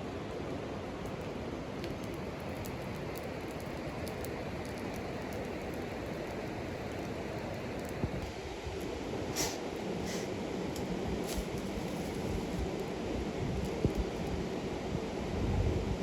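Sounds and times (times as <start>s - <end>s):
campfire rushing noise: 0.0s - 16.0s
fire crackles and pops: 0.0s - 16.0s.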